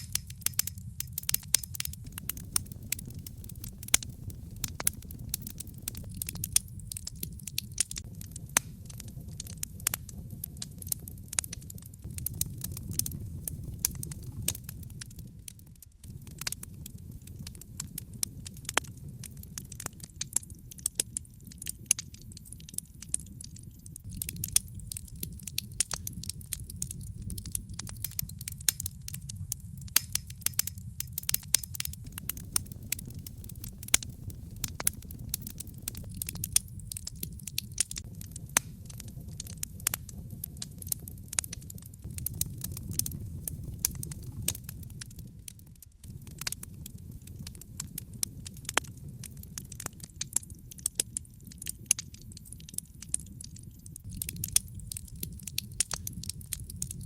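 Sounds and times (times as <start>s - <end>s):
logs crackling and popping: 0.0s - 57.0s
low rumble of flames: 0.0s - 57.0s.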